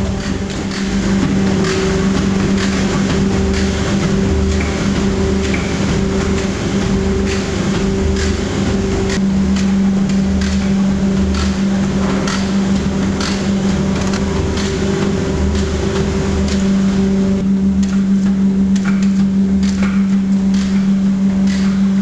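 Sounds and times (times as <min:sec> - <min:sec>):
motor hum: 0:00.0 - 0:22.0
rhythmic knocking of needle head: 0:00.0 - 0:22.0.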